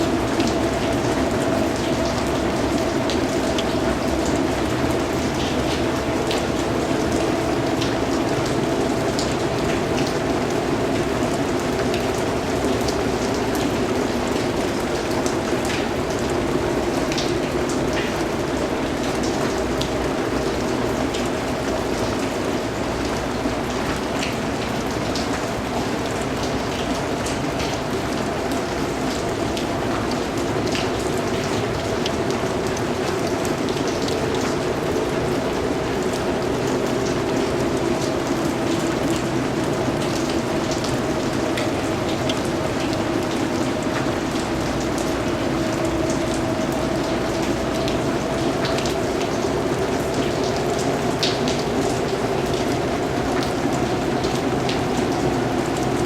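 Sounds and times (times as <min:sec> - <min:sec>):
steady rain with drop ticks: 0:00.0 - 0:56.0.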